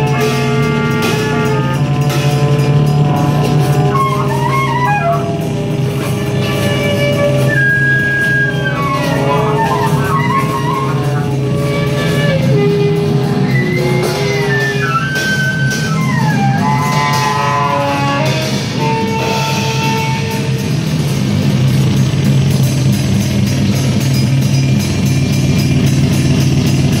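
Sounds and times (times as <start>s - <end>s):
saxophone and trombone notes: 0.0s - 22.5s
steady low drone: 0.0s - 27.0s.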